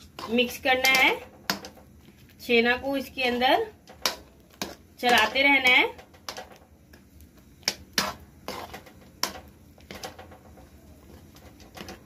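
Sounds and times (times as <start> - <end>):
metal spatula scraping a pan: 0.0 - 1.9, 3.0 - 6.7, 7.6 - 12.0.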